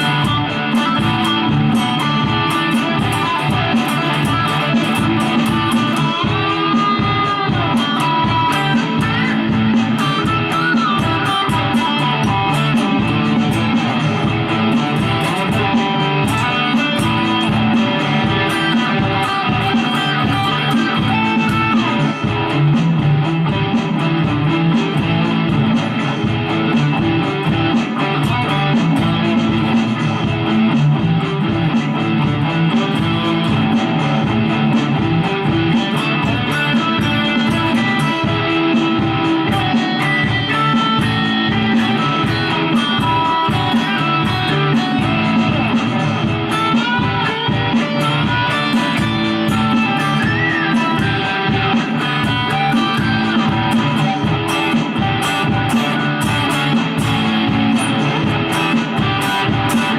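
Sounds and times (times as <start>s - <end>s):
electric guitar noodling: 0.0s - 59.9s.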